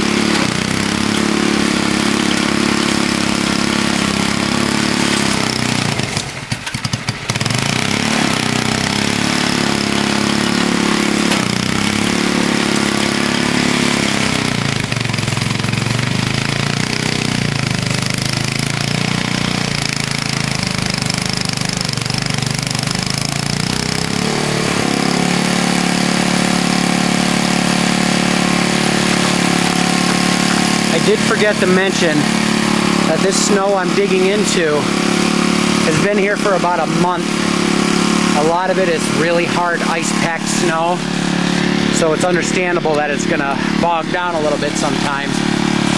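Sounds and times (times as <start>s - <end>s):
snowblower engine under load: 0.0s - 45.9s.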